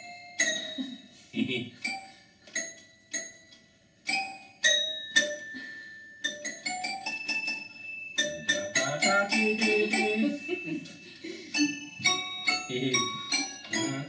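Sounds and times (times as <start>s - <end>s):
toy piano notes: 1.8s - 14.0s.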